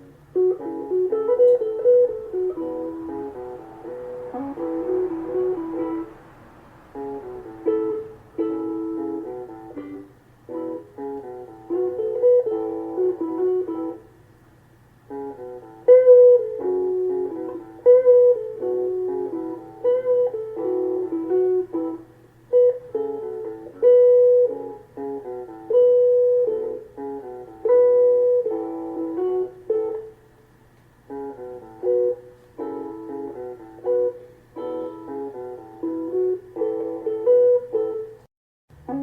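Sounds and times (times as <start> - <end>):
electric guitar single-note melody: 0.0 - 14.2, 15.0 - 39.0.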